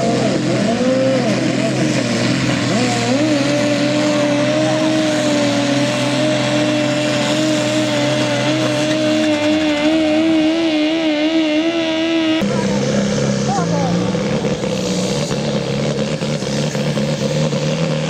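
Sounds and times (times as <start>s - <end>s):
tractor diesel engine running flat out: 0.0s - 18.0s.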